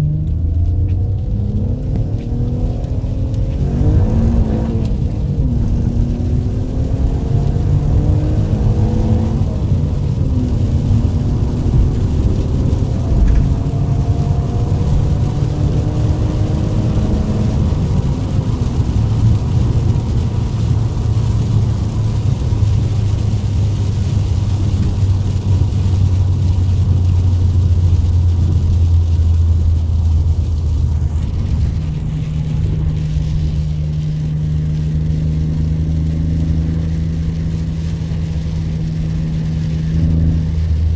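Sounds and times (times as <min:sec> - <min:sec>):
car engine pulling through gears: 0:00.0 - 0:40.9.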